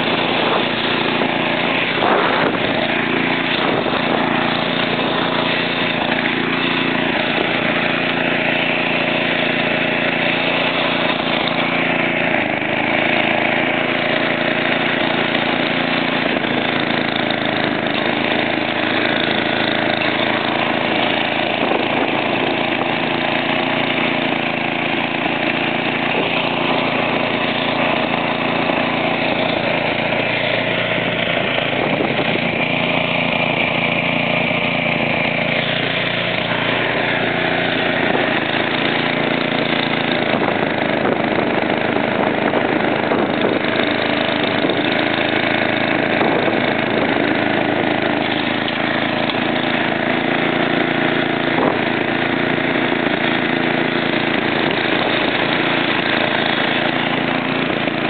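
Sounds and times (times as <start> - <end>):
snowblower engine running: 0.0 - 58.0.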